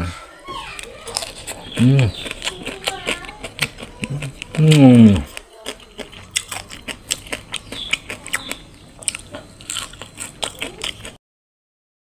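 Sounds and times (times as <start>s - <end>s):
crunchy fried food chewing: 0.6s - 11.2s.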